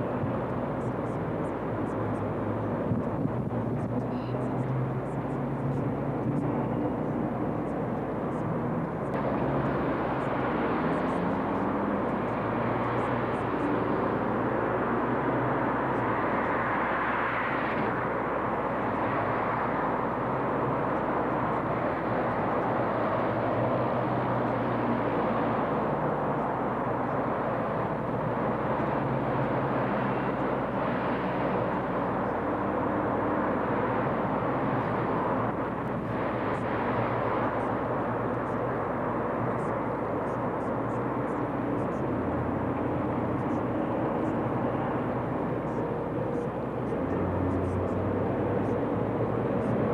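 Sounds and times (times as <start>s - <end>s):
traffic rumble: 0.0s - 49.9s.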